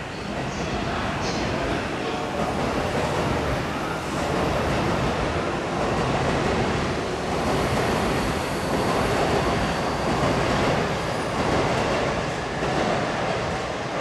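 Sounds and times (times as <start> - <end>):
electric train running on tracks: 0.0 - 14.0.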